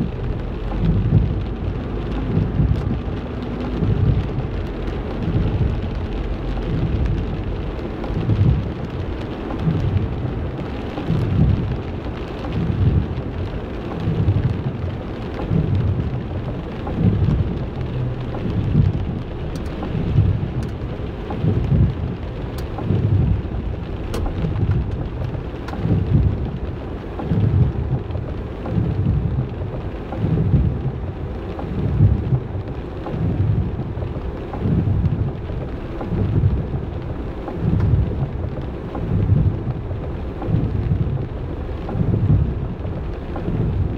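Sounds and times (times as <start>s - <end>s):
heavy rain falling: 0.0s - 43.9s
low rumbling surges: 0.0s - 43.9s.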